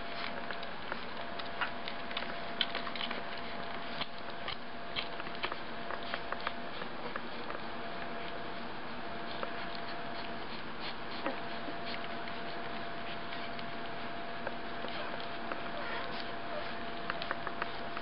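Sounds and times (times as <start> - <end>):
faint hum: 0.0 - 18.0
puppies suckling: 0.0 - 18.0.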